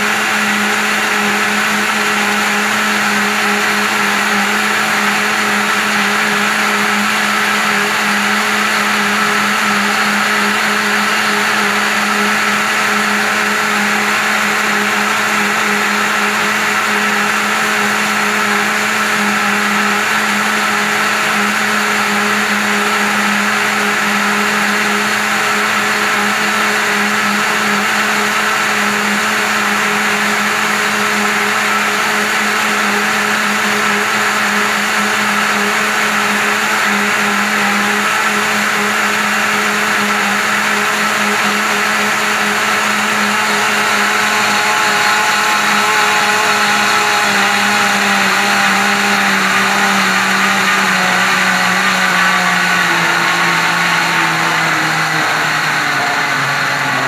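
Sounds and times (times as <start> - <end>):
blender running: 0.0 - 57.0.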